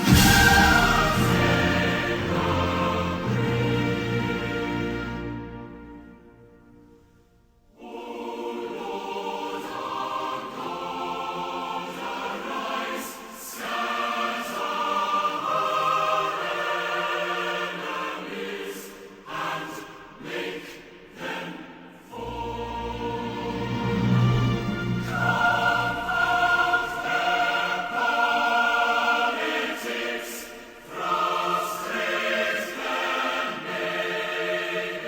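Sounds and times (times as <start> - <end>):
choir singing held chords: 0.0 - 7.1, 7.7 - 35.0.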